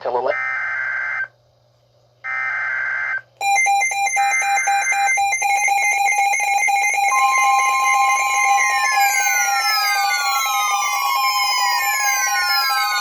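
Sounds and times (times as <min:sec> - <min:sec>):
steady warning alarm tone: 0:00.0 - 0:01.3, 0:02.3 - 0:13.0.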